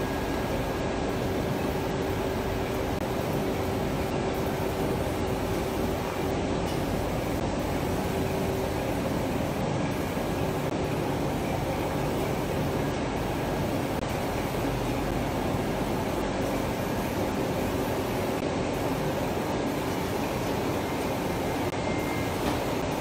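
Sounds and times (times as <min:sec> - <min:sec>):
machinery humming with faint whine: 0:00.0 - 0:23.0.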